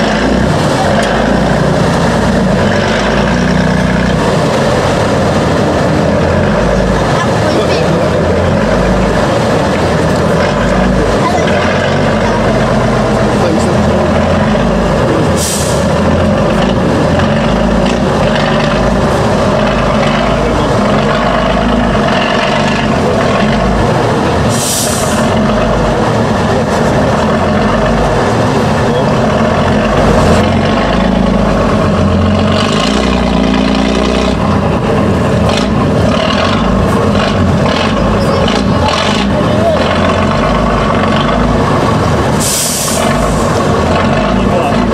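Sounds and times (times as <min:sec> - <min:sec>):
truck diesel engine under load: 0:00.0 - 0:44.9.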